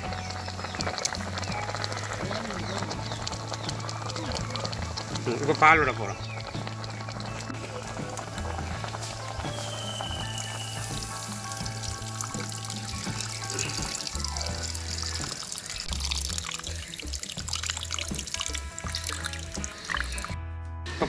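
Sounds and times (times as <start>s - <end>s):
liquid trickling into pot: 0.0s - 20.4s
background music: 0.0s - 21.0s.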